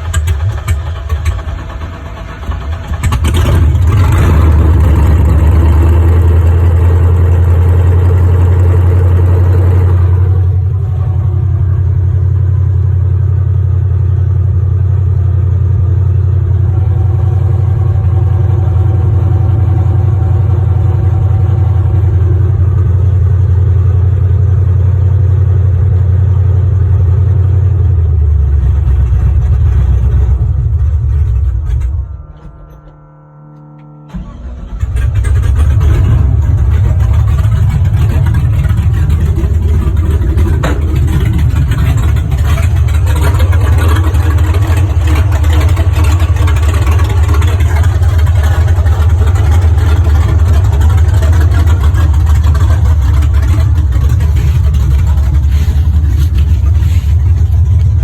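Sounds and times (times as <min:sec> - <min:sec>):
pickup engine starting and revving: 0:00.0 - 0:32.7, 0:33.9 - 0:58.0.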